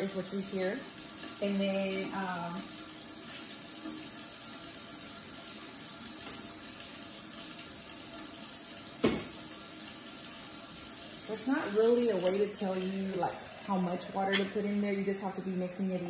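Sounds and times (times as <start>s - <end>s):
faucet running water: 0.0s - 16.0s.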